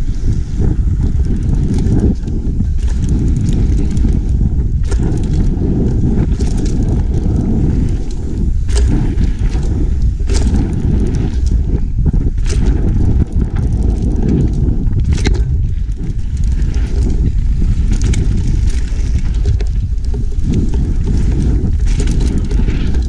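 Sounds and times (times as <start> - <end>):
bike rattling and clicking: 0.0 - 23.0
bike tyres rolling on dirt: 0.0 - 23.0
wind buffeting microphone: 0.0 - 23.0.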